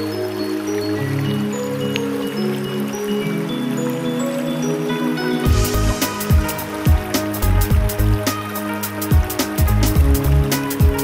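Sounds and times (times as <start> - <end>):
background music of held notes: 0.0 - 11.0
river water over stones: 0.0 - 11.0.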